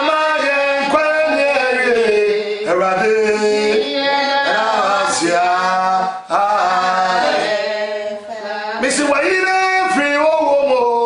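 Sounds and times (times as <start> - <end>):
man singing slowly: 0.0 - 7.6, 8.8 - 11.0.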